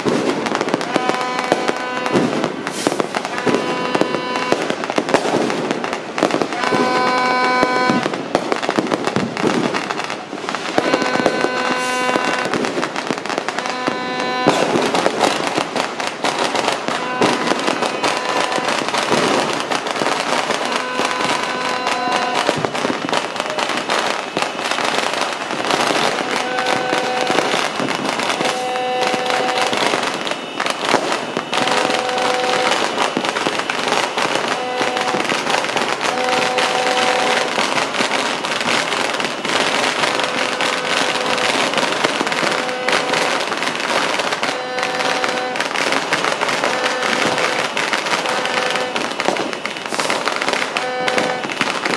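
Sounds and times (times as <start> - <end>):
pitched tone blasts: 0.0 - 5.6, 6.4 - 8.3, 10.6 - 51.9
fireworks crackling and banging: 0.0 - 51.9.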